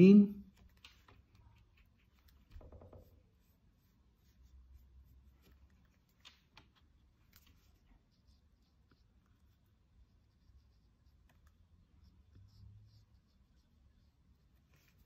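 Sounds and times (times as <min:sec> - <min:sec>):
brush pen strokes on paper: 0:00.5 - 0:15.0.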